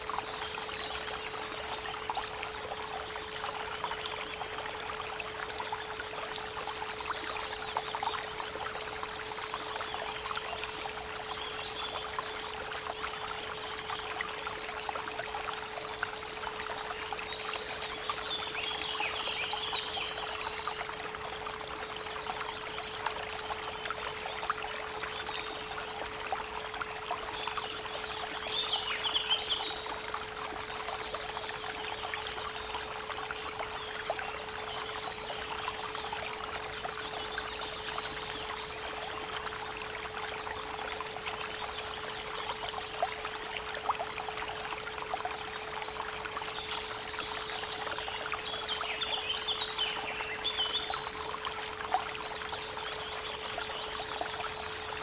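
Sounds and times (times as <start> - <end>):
creek water trickling: 0.0 - 55.0.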